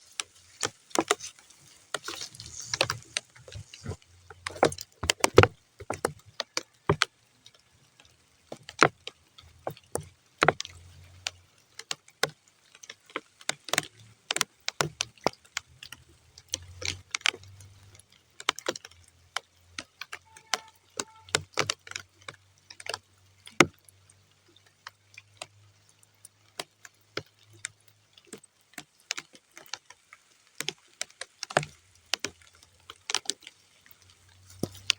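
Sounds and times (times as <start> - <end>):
raindrops on muddy ground: 0.0 - 34.9.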